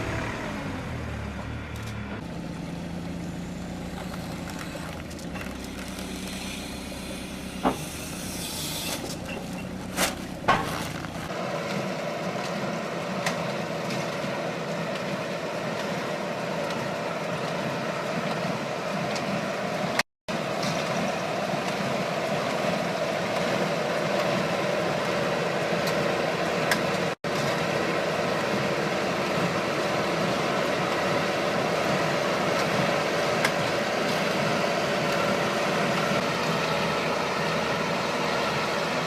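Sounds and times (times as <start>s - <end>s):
heavy machinery engine running: 0.0s - 39.0s.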